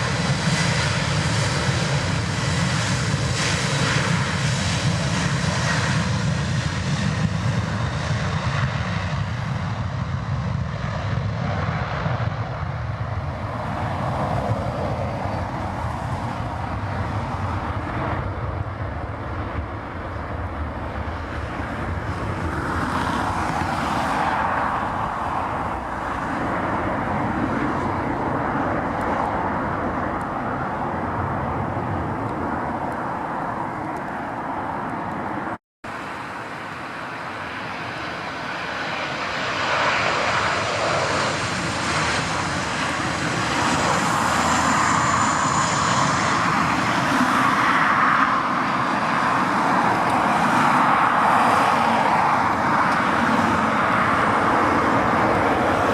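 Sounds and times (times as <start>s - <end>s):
jet engine noise: 0.0s - 55.9s
jet engines on approach: 0.0s - 55.9s.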